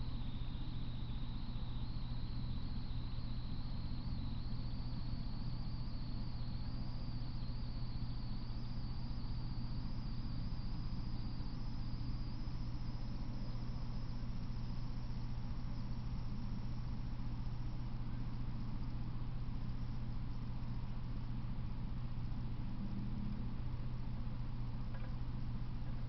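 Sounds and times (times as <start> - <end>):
electrical hum and hiss: 0.0 - 26.0
faint high-pitched whine: 0.0 - 26.0.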